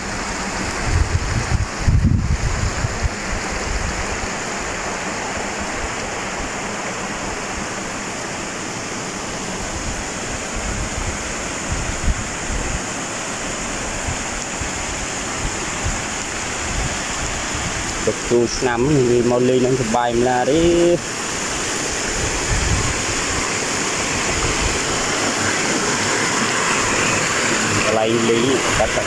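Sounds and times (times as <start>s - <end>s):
water rushing over rock: 0.0s - 29.0s.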